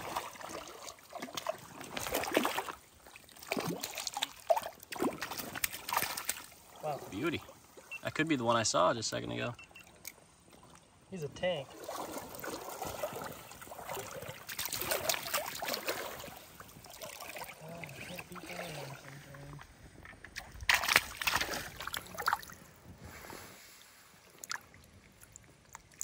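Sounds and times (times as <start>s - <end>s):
water sloshing and splashing: 0.0s - 26.0s.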